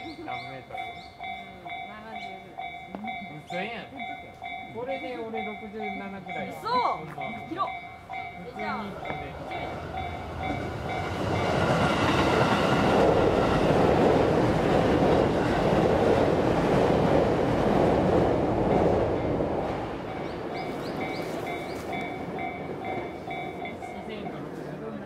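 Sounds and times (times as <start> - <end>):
crossing warning bell ringing: 0.0 - 13.8, 18.5 - 25.0
train rumbling past: 0.0 - 25.0.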